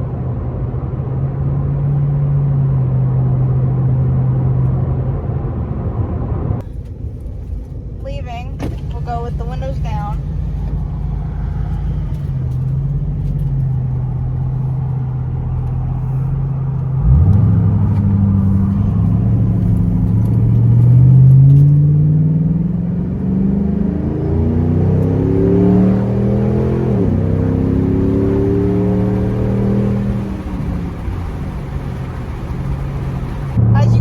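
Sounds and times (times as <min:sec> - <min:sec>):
car exhaust during acceleration: 0:00.0 - 0:34.0.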